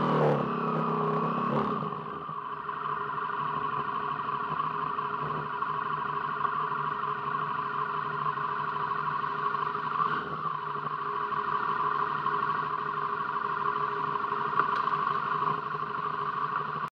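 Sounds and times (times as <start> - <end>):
vehicle engine droning: 0.0 - 16.9.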